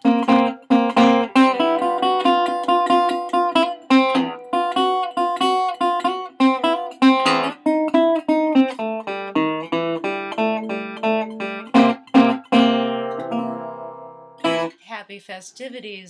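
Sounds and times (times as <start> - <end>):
blues guitar playing: 0.0 - 14.8.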